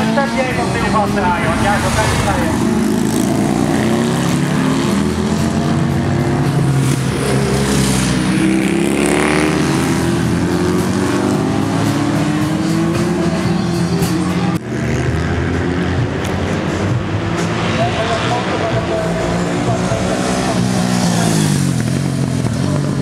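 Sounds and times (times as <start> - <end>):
motorcycle engines accelerating: 0.0 - 23.0.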